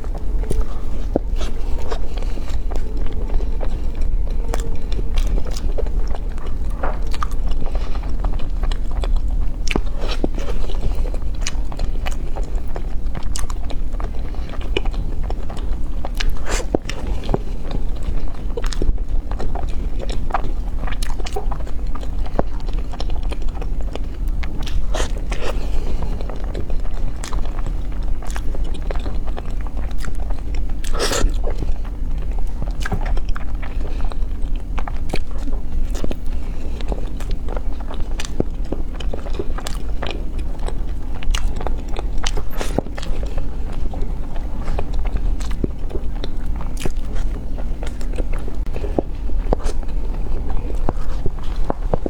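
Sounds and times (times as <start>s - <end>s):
chewing and crunching: 0.0s - 52.0s
steady low hum: 0.0s - 52.0s.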